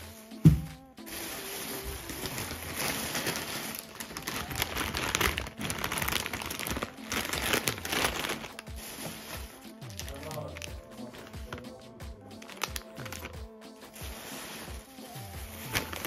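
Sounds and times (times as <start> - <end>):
plastic bag and packet crinkling: 1.0 - 16.0.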